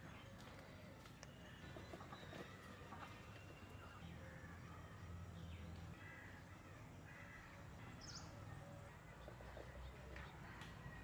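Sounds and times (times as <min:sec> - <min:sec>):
distant bird calls: 0:00.0 - 0:11.0.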